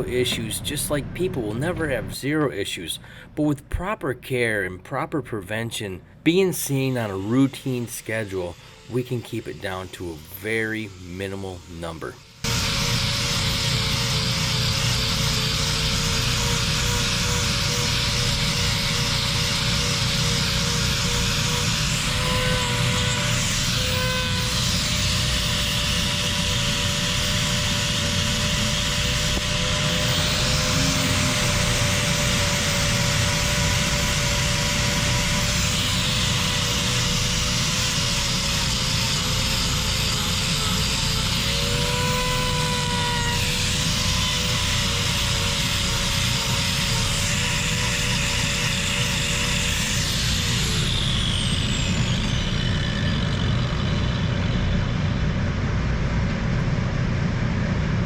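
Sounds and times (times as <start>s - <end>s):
angle grinder cutting hoof: 6.6s - 54.5s.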